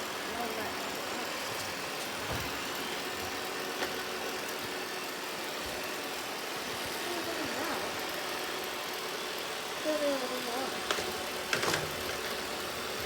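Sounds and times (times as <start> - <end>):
robot vacuum cleaner whirring: 0.0 - 13.0.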